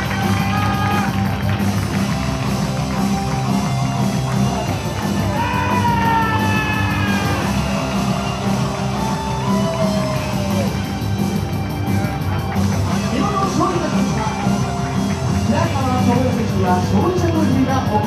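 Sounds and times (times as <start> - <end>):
rock music with vocals and guitar: 0.0 - 18.0.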